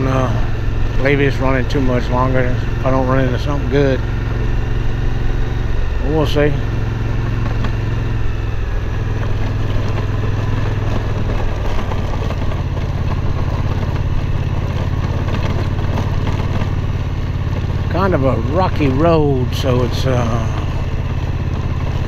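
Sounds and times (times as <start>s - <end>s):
constant rushing noise: 0.0s - 22.0s
motorcycle engine running: 0.0s - 22.0s.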